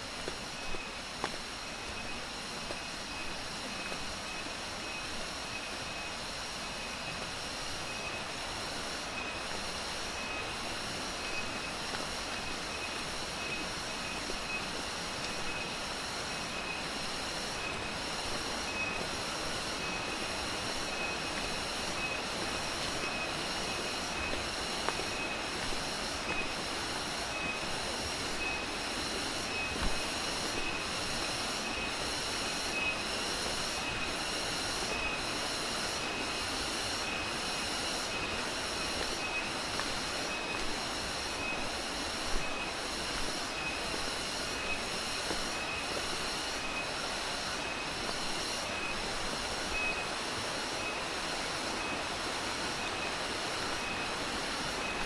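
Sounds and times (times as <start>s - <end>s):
hissing background noise: 0.0s - 55.0s
insects chirring in chorus: 0.0s - 55.0s.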